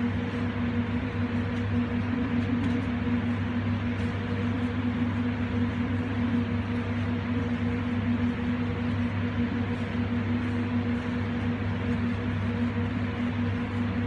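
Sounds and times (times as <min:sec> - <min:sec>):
kitchen machinery humming: 0:00.0 - 0:14.0.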